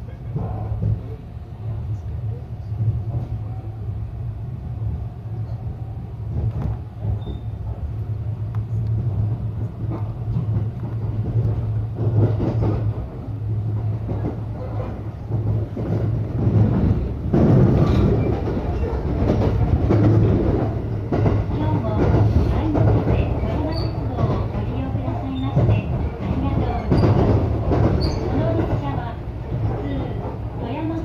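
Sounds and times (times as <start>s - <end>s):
train hum inside carriage: 0.0s - 31.0s.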